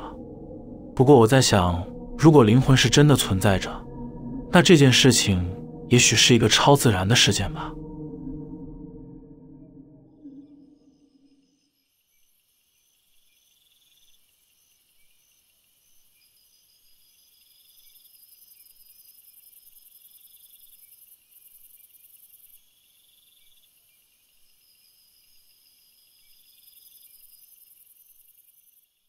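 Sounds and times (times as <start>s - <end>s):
insects chirping in trills: 0.0s - 29.0s.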